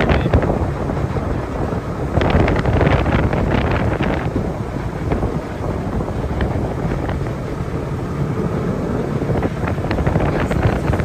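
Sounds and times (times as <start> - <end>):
vehicle engine running: 0.0 - 11.0
wind buffeting microphone: 0.0 - 11.0.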